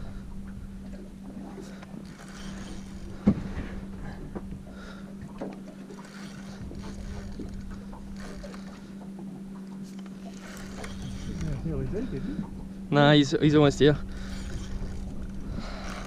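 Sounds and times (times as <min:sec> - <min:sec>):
steady low hum: 0:00.0 - 0:16.0
water lapping on hull: 0:00.0 - 0:16.0.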